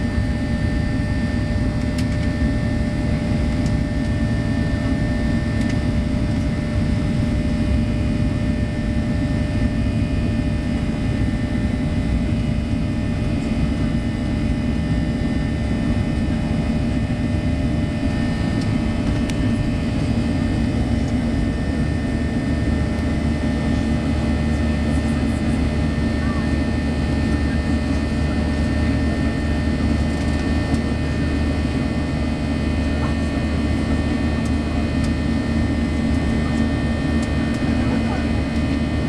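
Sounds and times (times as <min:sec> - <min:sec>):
faint steady whine: 0:00.0 - 0:39.0
jet engine cabin roar: 0:00.0 - 0:39.0.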